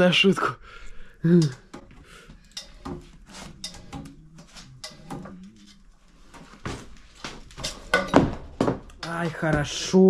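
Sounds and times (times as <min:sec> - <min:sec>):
scooters clattering on wooden floor: 0:01.4 - 0:10.0.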